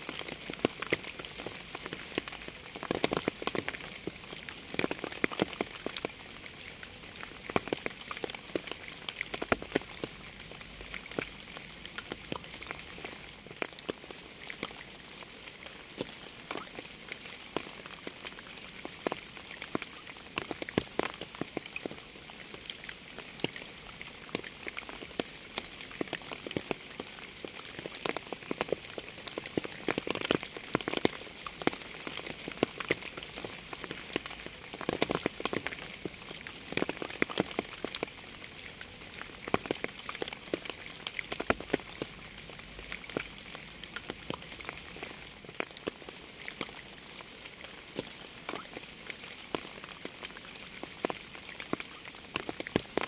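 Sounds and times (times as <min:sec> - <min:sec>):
raindrops striking close by: 0:00.0 - 0:53.0
steady rain: 0:00.0 - 0:53.0.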